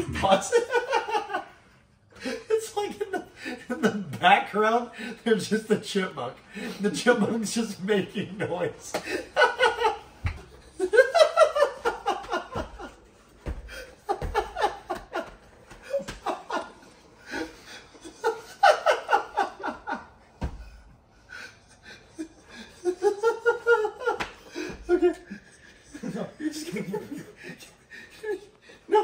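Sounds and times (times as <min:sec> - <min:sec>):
young men laughing: 0:00.0 - 0:05.6, 0:06.5 - 0:29.0.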